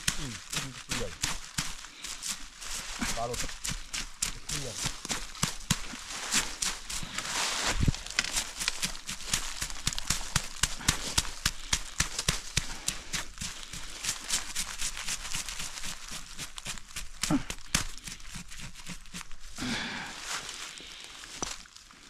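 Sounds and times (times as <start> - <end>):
footsteps crunching dry leaves: 0.0 - 22.0.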